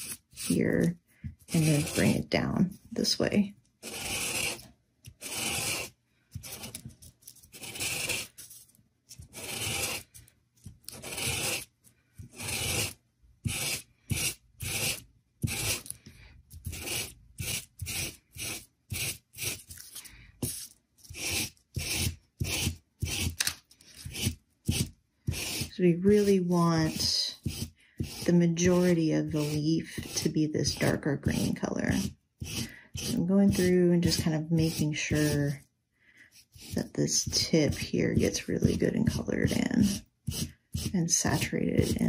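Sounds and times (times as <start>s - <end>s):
marker rubbing on paper: 0.0s - 2.3s, 3.8s - 4.6s, 5.2s - 10.2s, 10.9s - 11.7s, 12.4s - 15.9s, 16.6s - 23.4s, 24.0s - 35.6s, 36.3s - 42.0s.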